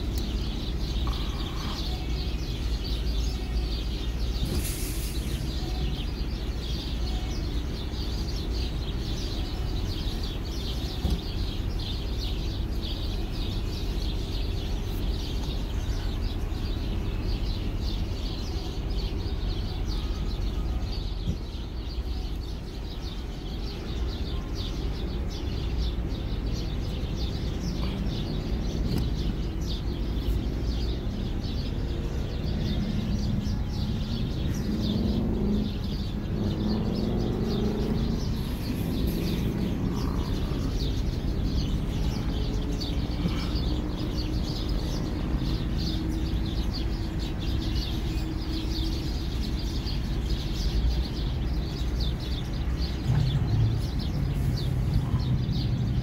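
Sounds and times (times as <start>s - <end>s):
flock of birds chirping: 0.0s - 56.0s.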